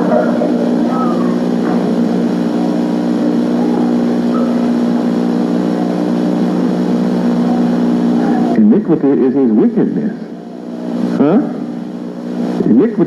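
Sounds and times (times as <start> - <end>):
faint indistinct voices: 0.0 - 13.0
loud low hum: 0.0 - 13.0.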